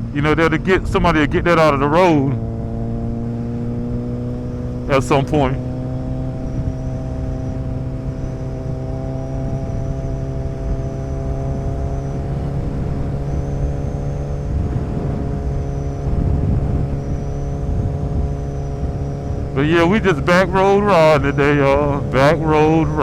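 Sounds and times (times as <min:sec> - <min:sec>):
motorcycle engine cruising: 0:00.0 - 0:23.0
wind and road noise: 0:00.0 - 0:23.0.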